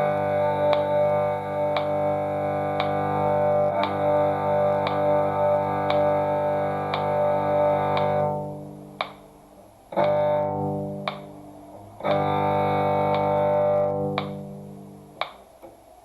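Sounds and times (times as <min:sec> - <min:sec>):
cello long bowed notes: 0:00.0 - 0:09.2, 0:09.9 - 0:15.3
metronome clicking: 0:00.1 - 0:09.3, 0:09.9 - 0:11.4, 0:12.0 - 0:14.6, 0:15.2 - 0:15.7.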